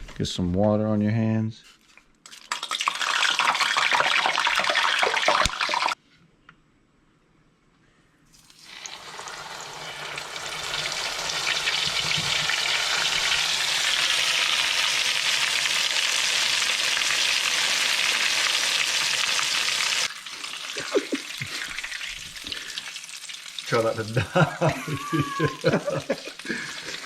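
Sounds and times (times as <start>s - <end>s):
hot oil sizzling and crackling: 2.3s - 6.0s, 8.4s - 27.0s.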